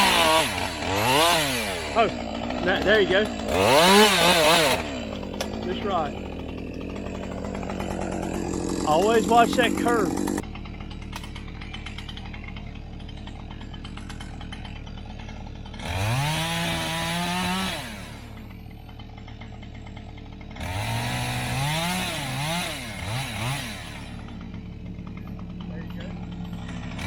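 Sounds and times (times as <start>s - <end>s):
chainsaw idling and revving: 0.0s - 27.0s.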